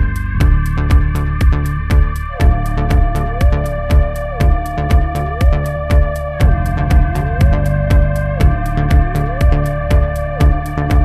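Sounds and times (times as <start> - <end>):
hi-hat ticks: 0.0 - 11.0
kick drum beat: 0.0 - 11.0.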